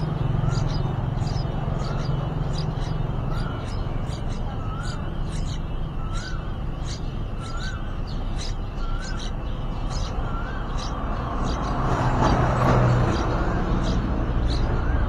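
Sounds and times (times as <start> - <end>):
nestlings high chirps: 0.0 - 15.0.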